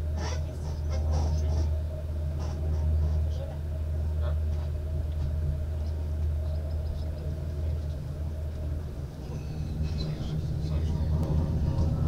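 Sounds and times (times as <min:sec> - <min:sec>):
faint hum: 0:00.0 - 0:12.0
train rumble: 0:00.0 - 0:12.0.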